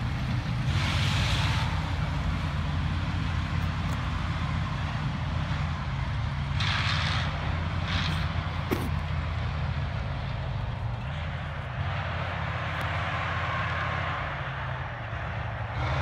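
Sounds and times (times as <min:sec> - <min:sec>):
distant tank diesel engine drone: 0:00.0 - 0:16.0.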